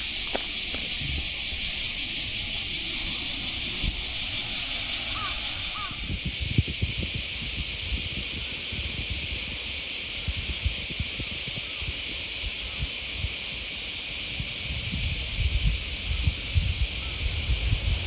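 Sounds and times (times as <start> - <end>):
high outdoor hiss: 0.0 - 18.0
wind rumbling on microphone: 0.0 - 18.0.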